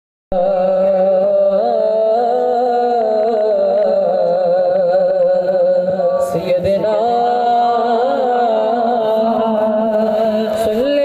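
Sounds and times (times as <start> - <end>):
humming vocal drone: 0.3 - 11.0.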